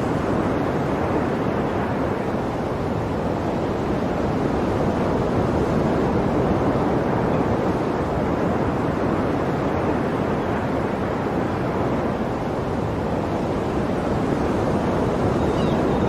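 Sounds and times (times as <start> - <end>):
ocean waves washing ashore: 0.0 - 16.0.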